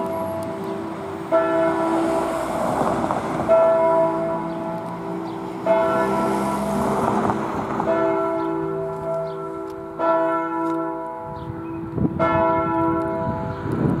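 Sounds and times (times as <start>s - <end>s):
church bell ringing: 0.0s - 14.0s.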